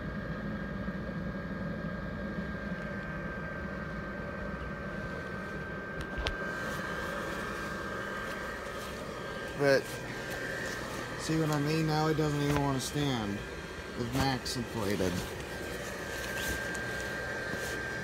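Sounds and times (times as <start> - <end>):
blower fan humming with whine: 0.0 - 18.0.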